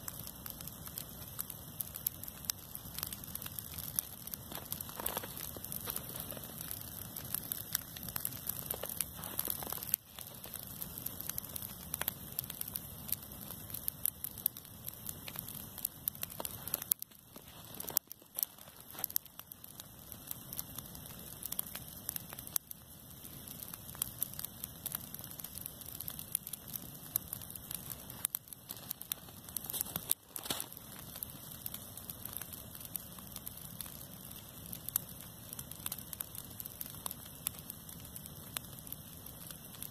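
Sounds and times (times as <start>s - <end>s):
dry grass crackling in fire: 0.0s - 39.9s
low rushing of fire: 0.0s - 39.9s.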